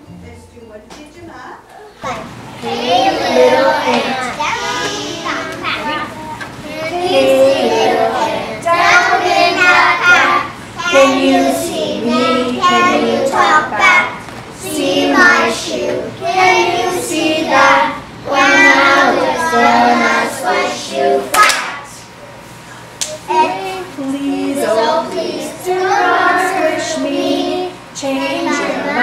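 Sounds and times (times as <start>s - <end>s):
child singing: 2.0s - 22.0s, 23.2s - 29.0s.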